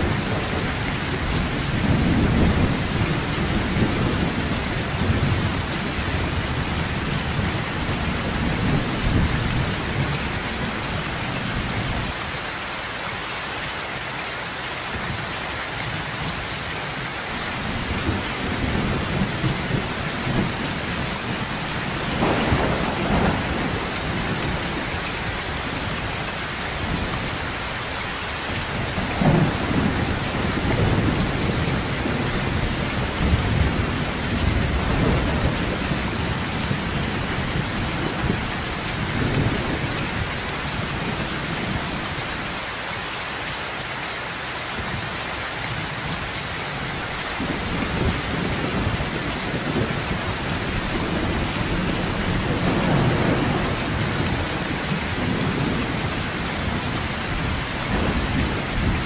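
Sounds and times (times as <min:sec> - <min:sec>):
thunder rumbling: 0:00.0 - 0:12.2, 0:17.3 - 0:42.4, 0:46.0 - 0:59.0
heavy rain on a metal roof: 0:00.0 - 0:59.0.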